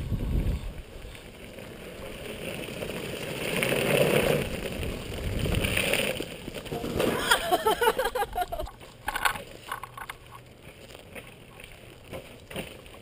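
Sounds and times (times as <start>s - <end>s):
tyres rolling on gravel: 0.0s - 13.0s
stick scraping along ground: 1.0s - 13.0s.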